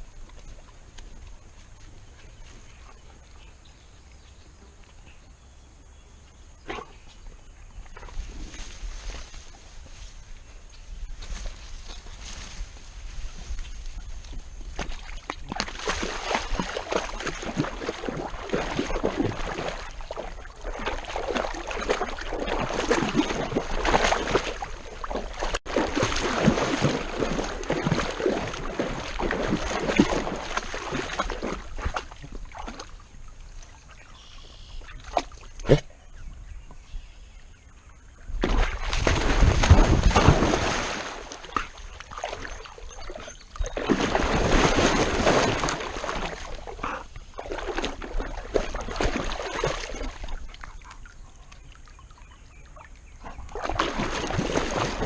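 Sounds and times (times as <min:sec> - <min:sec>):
water splashing and sloshing: 0:06.6 - 0:35.9, 0:38.0 - 0:55.0.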